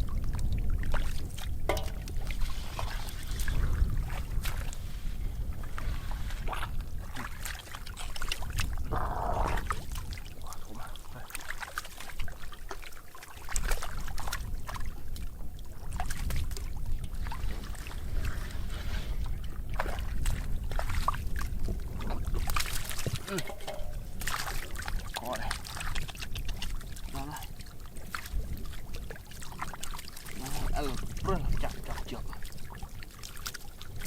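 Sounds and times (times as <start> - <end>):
water splashing and trickling: 0.0 - 34.0.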